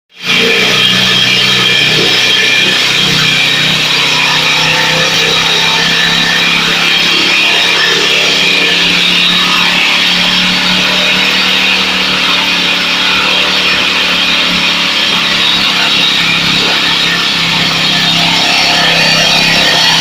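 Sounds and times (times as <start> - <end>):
corn shelling machine running: 0.1 - 20.0.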